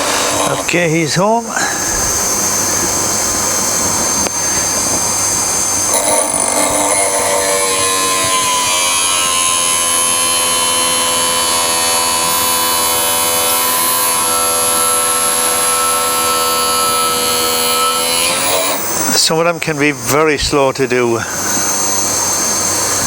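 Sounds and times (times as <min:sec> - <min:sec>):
grinding wheel grinding metal: 0:00.0 - 0:19.4
sharpening machine whining: 0:00.0 - 0:20.2, 0:20.9 - 0:23.0.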